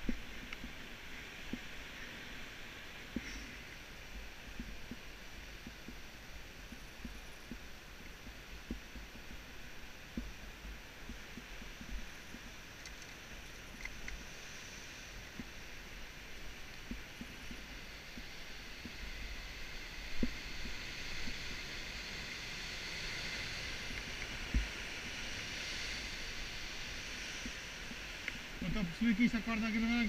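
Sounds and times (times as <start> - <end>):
steady hiss: 0.0 - 30.0
wind rumbling on microphone: 0.0 - 30.0.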